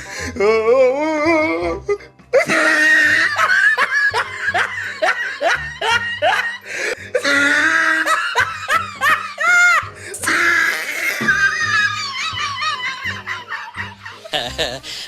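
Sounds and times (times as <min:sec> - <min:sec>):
person laughing hard: 0:02.4 - 0:15.0.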